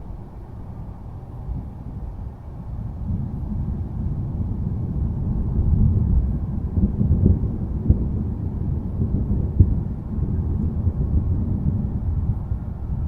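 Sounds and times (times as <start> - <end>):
distant thunder rumbling: 0.0 - 13.0.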